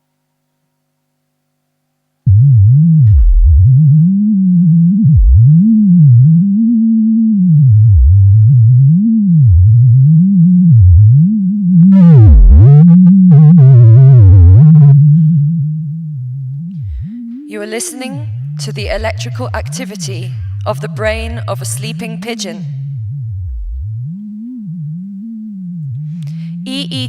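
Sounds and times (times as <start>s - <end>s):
deep sweeping electronic tone: 2.3s - 27.0s
higher wavering electronic tones: 2.3s - 27.0s.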